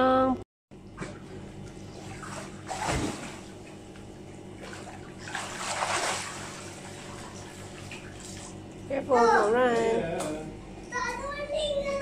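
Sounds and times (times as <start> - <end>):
pool water splashing: 0.8 - 10.5.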